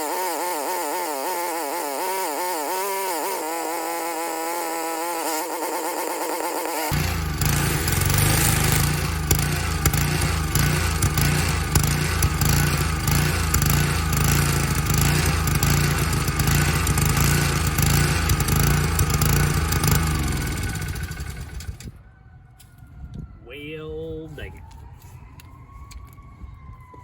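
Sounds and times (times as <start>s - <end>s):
pressure washer engine running: 0.0s - 21.8s.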